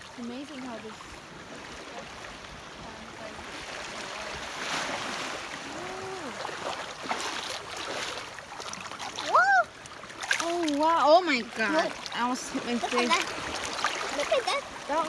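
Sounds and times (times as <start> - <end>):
small water splashes: 0.0 - 15.0
water lapping around rocks: 0.0 - 15.0.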